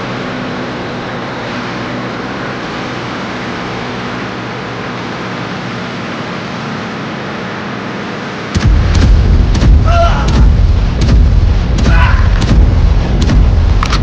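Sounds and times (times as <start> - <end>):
motor running steadily: 0.0 - 14.0.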